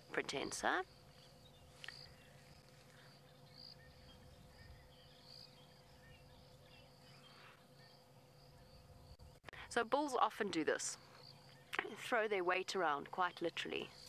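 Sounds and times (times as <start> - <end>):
high insect buzz: 0.0 - 14.0.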